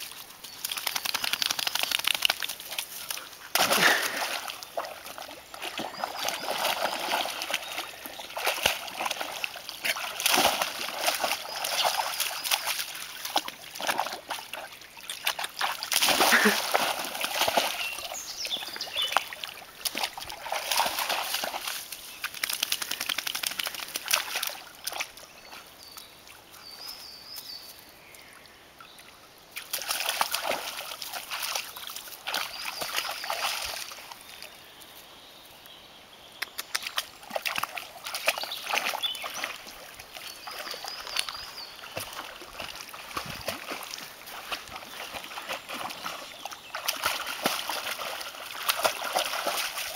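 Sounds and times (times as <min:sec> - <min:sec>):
dog splashing through water: 0:00.0 - 0:25.7, 0:29.6 - 0:34.2, 0:36.7 - 0:49.9.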